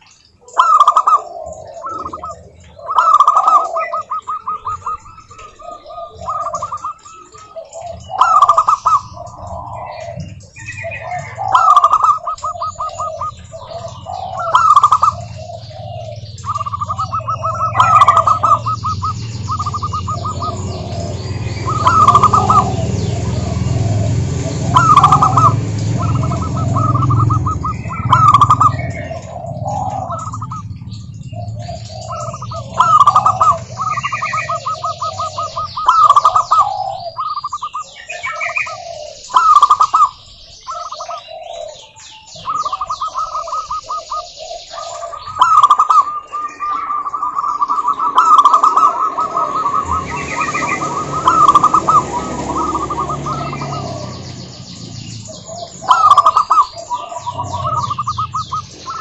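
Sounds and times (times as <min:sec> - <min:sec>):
doves cooing: 0:00.0 - 0:59.0
small birds chirping: 0:00.0 - 0:59.0.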